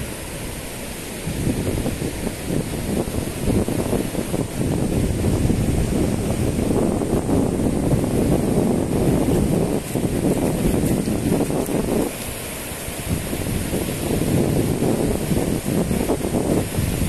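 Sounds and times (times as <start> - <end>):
small surf breaking on beach: 0.0 - 17.0
wind buffeting microphone: 0.0 - 17.0.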